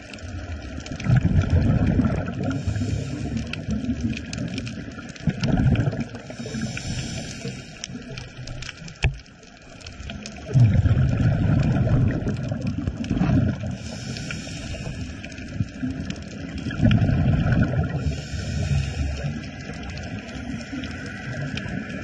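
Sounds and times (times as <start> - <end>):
diver's bubbles rumbling underwater: 0.0 - 22.0.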